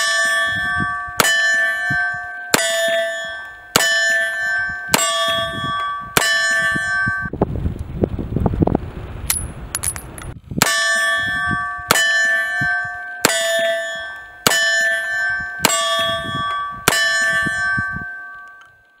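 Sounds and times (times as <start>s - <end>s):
metallic ringing clang: 0.0s - 7.3s, 9.3s - 18.8s.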